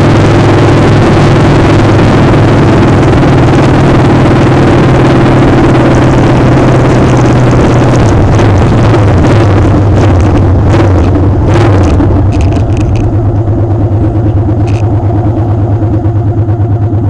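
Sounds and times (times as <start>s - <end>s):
motorcycle engine running: 0.0s - 17.0s
rush of noise: 0.0s - 17.0s.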